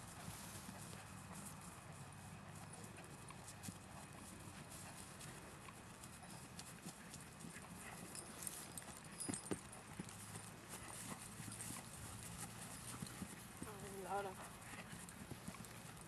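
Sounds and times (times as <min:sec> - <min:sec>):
horse hoofbeats on grass: 0:00.0 - 0:16.0.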